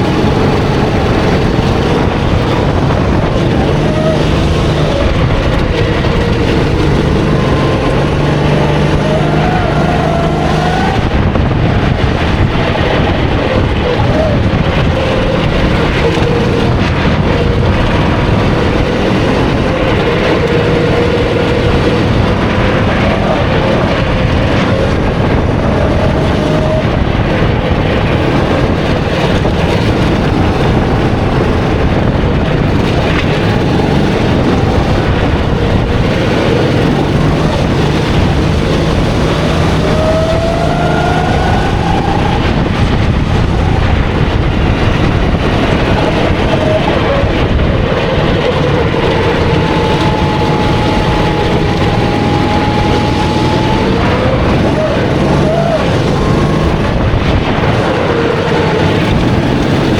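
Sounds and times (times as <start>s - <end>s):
kart engine running: 0.0s - 59.9s
loud steady rushing noise: 0.0s - 59.9s.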